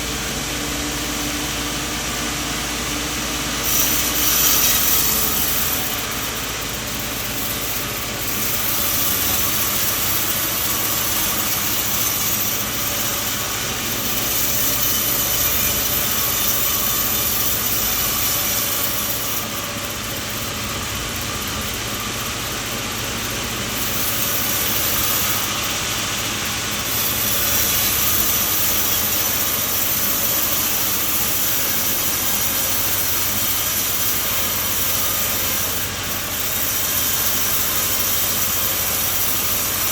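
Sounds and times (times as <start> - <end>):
sawmill machine running: 0.0 - 39.9.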